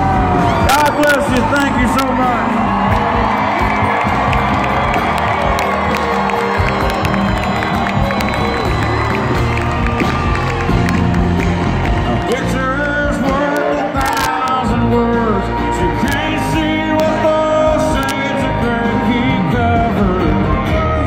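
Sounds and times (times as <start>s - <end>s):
live country band playing: 0.0s - 21.0s.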